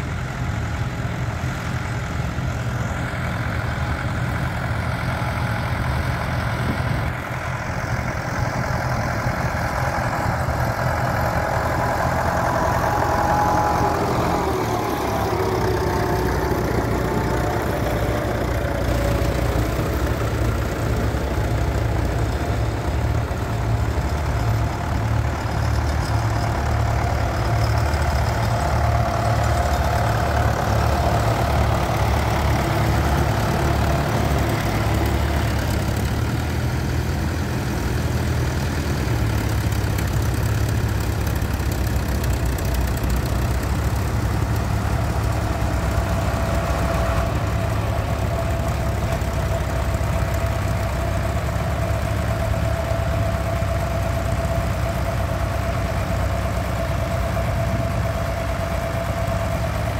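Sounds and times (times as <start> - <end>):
tractor engines rumbling: 0.0 - 59.9.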